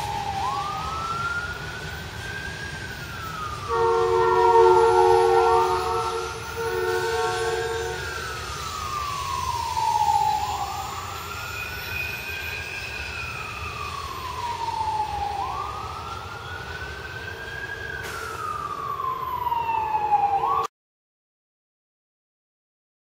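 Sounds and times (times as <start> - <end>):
siren wailing: 0.0 - 20.7.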